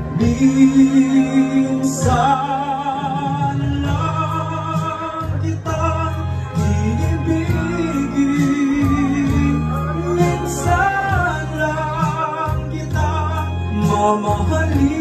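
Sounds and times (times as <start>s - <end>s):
instrumental backing track: 0.0s - 15.0s
man singing into a microphone: 0.0s - 15.0s.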